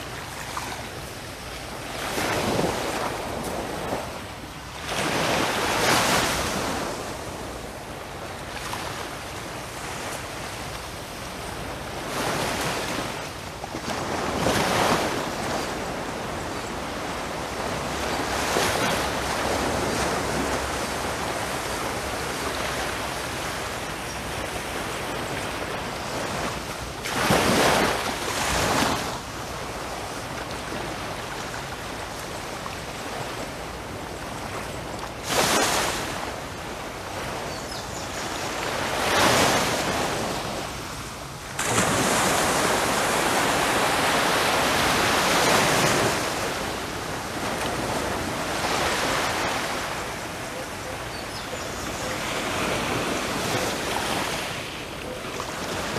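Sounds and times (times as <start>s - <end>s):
small waves lapping on shore: 0.0s - 55.9s.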